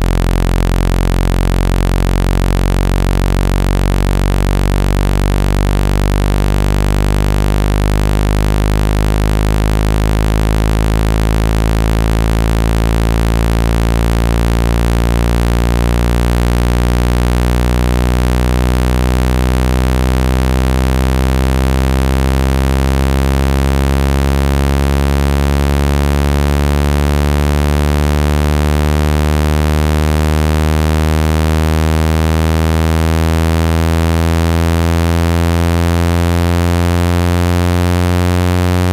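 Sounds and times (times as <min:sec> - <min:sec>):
low buzzing electronic tone: 0:00.0 - 0:38.9.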